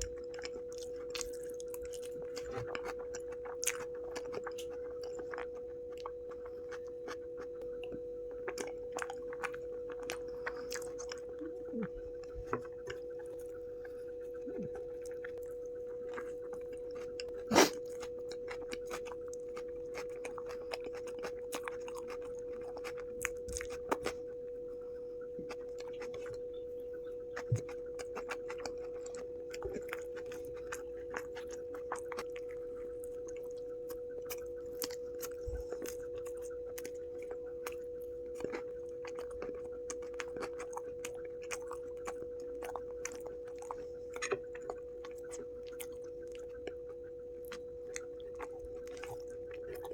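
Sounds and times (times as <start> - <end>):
close chewing and mouth sounds: 0.0 - 49.9
steady humming tone: 0.0 - 49.9.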